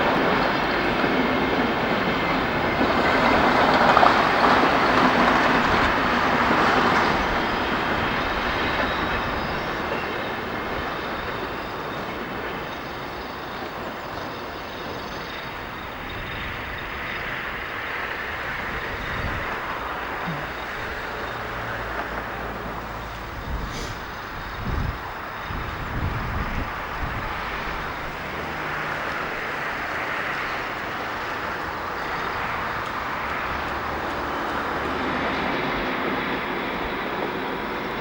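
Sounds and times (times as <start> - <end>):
diesel train passing: 0.0 - 38.0.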